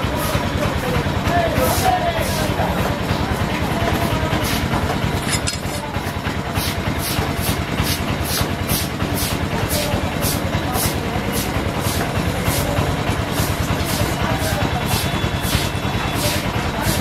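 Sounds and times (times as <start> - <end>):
low rumble of engines: 0.0 - 17.0.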